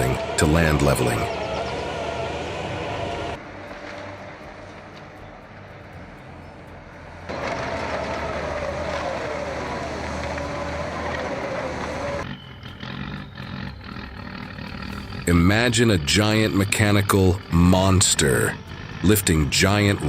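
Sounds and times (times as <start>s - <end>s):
heavy machine engine running: 0.0s - 20.0s
wavering whine: 0.0s - 20.0s.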